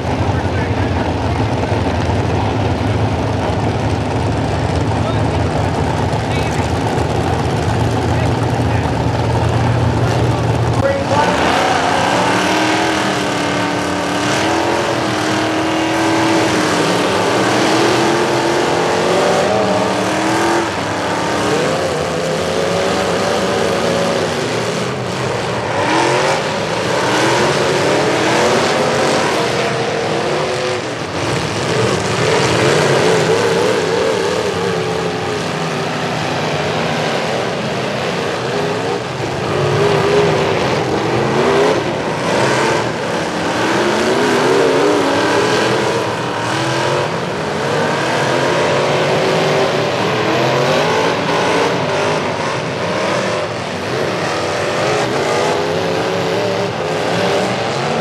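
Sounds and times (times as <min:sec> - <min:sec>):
truck engines revving hard: 0:00.0 - 0:58.0
trucks ramming each other: 0:00.0 - 0:58.0.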